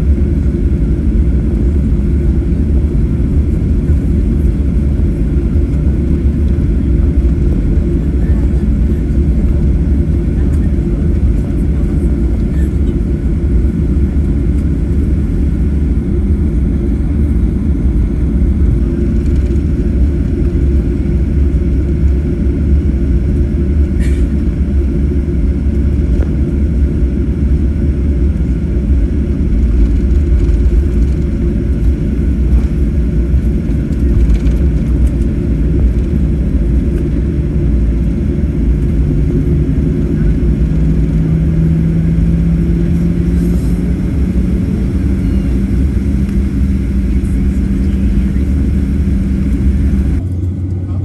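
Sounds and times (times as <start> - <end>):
vehicle rumble from inside: 0.0 - 51.0.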